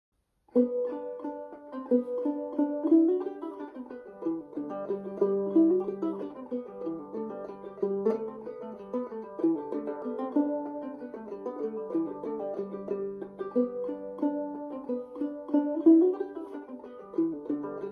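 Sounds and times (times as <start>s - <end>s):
plucked string instrument melody: 0.5s - 17.9s.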